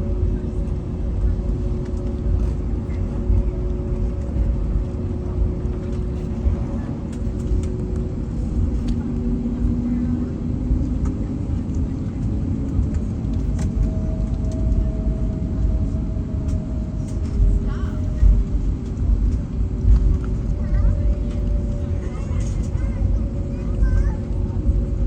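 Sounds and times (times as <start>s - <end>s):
heavy low rumble: 0.0s - 25.0s
jet engines humming at low power: 0.0s - 25.0s.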